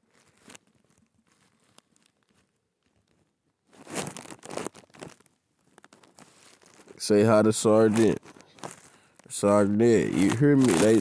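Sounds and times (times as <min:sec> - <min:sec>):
rustling crinkling noise: 0:00.0 - 0:11.0.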